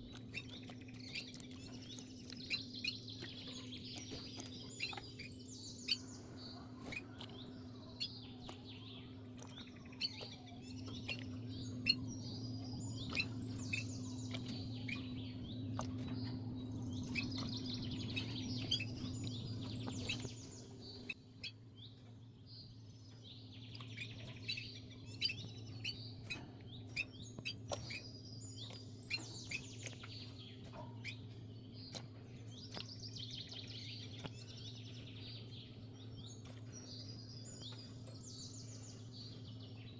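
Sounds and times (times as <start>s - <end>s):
low hum: 0.0s - 39.9s
small birds chirping: 0.0s - 39.9s.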